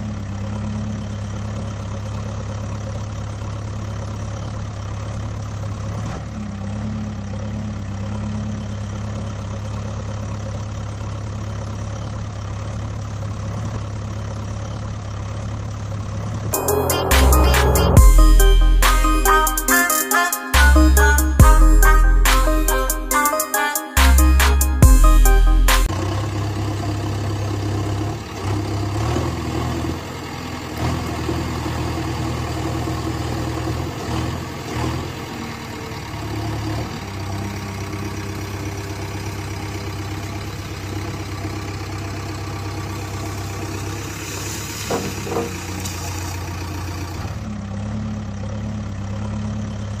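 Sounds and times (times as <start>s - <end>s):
engine idling: 0.0s - 23.3s, 24.0s - 50.0s.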